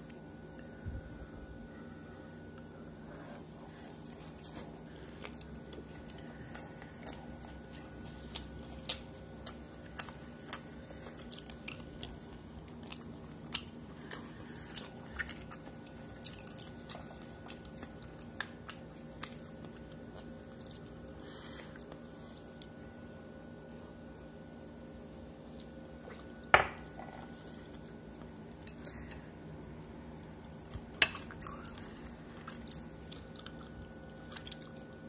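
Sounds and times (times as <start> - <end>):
steady low hum: 0.0 - 35.0
person chewing food: 3.4 - 22.8, 25.5 - 35.0.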